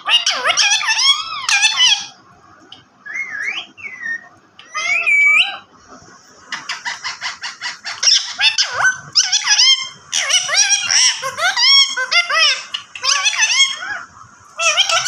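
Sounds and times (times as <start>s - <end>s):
parrot calling and chattering: 0.0s - 2.2s, 3.1s - 5.8s, 6.5s - 15.0s.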